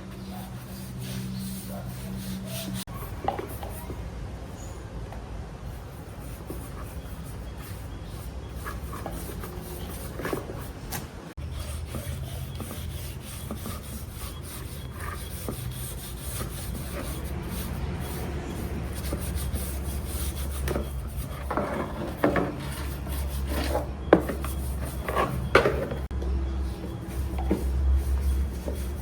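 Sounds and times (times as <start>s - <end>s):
rubbing and scraping: 0.0s - 4.8s, 5.7s - 29.0s.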